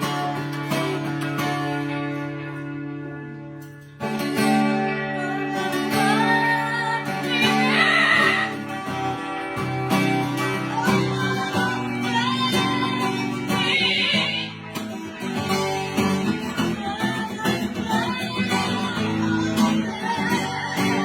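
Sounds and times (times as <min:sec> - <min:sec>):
plucked guitar background music: 0:00.0 - 0:21.0.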